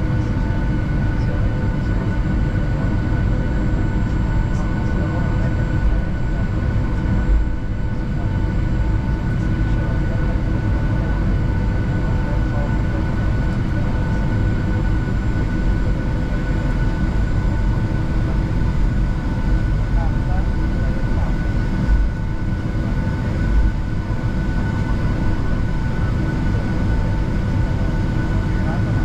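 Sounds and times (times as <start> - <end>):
jet engines idling rumble: 0.0 - 29.0.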